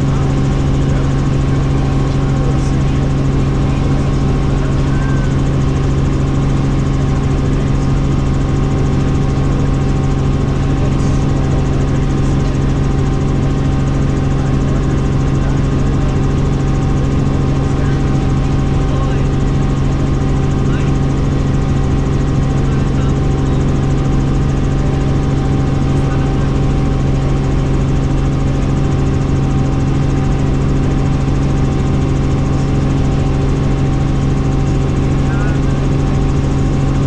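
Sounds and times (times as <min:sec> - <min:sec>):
helicopter in flight: 0:00.0 - 0:37.0.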